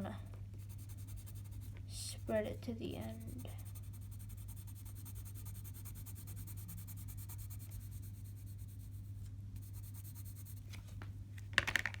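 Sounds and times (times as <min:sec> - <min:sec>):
low electrical hum: 0:00.0 - 0:12.0
pencil shading on paper: 0:00.6 - 0:10.6.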